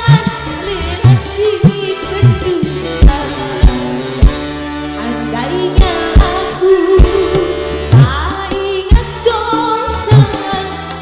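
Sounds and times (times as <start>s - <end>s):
woman singing: 0.0s - 4.2s, 5.0s - 11.0s
electric guitar: 0.0s - 11.0s
heavy drum beats: 0.0s - 11.0s
keyboard: 0.0s - 11.0s.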